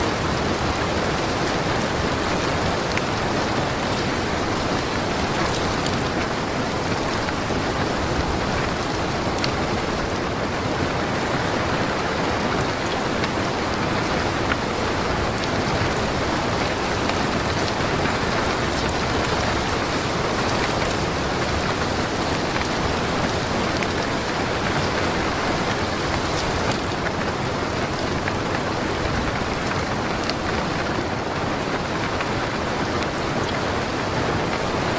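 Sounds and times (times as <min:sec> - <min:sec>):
strong wind blowing: 0:00.0 - 0:34.9.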